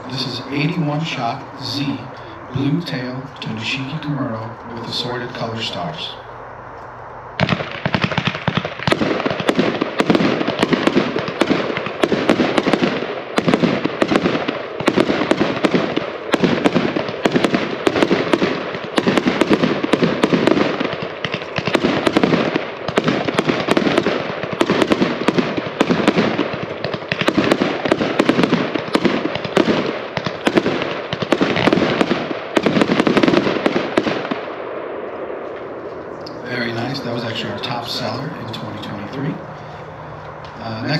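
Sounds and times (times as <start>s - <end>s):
fireworks barrage: 0.0s - 6.3s, 7.4s - 40.9s.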